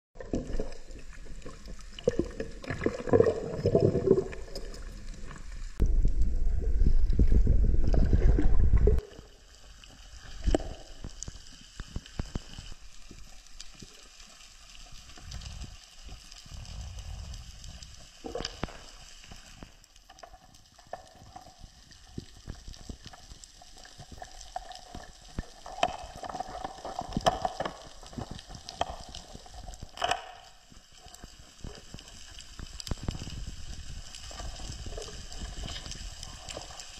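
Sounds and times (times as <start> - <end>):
underwater water rushing and bubbling: 0.2 - 36.9.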